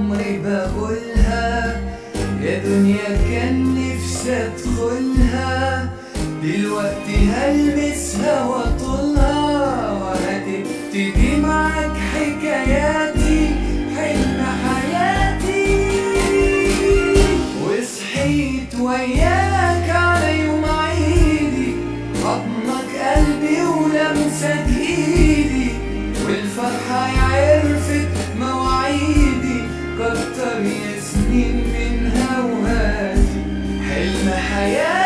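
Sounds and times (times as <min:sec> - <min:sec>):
instrumental backing with bass: 0:00.0 - 0:35.0
person singing long melodic lines: 0:00.0 - 0:35.0.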